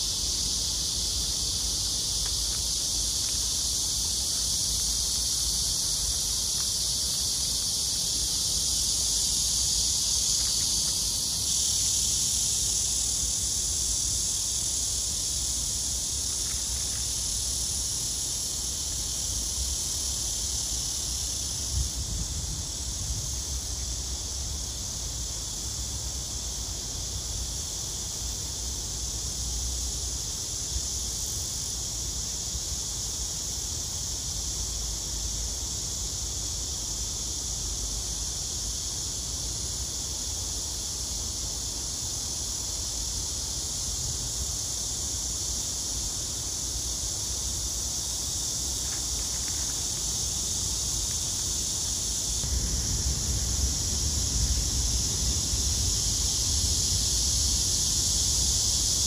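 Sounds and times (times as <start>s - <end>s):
high hiss: 0.0s - 59.0s.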